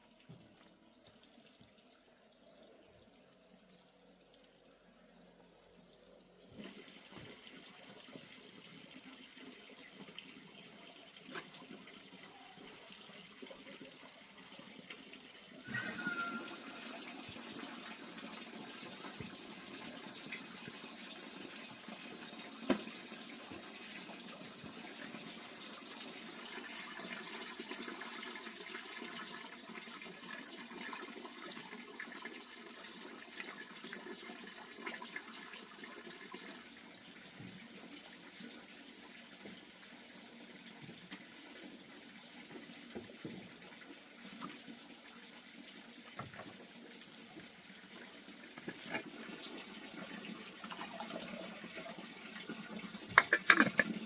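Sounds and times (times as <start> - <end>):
water running: 6.3 - 54.0.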